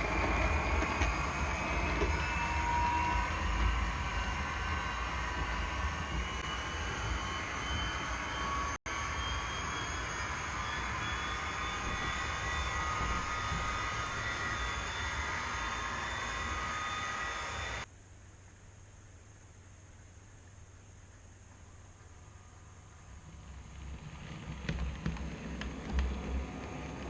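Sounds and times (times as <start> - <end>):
diesel train engine with whine: 0.0 - 17.9, 20.1 - 27.0.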